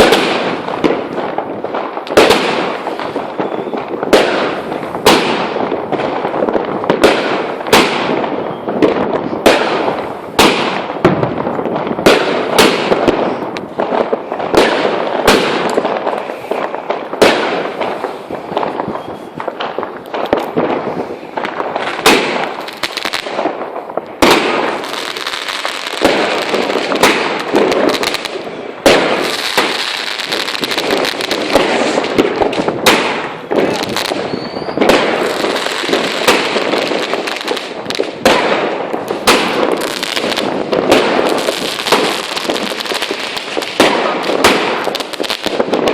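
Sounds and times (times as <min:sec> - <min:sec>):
fireworks banging: 0:00.0 - 0:45.9
fireworks crackling: 0:00.0 - 0:45.9.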